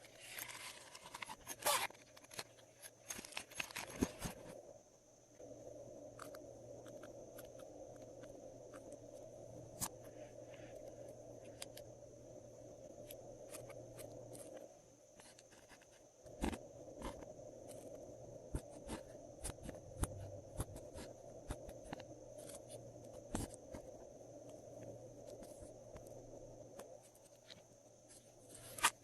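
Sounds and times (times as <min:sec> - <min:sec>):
background hum: 0:00.0 - 0:29.0.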